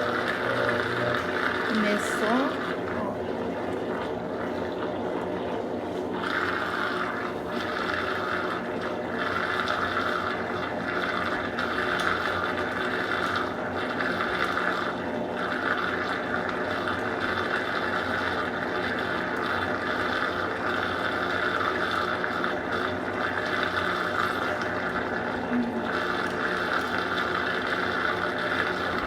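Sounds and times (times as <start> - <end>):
washing machine water sloshing: 0.0 - 29.0.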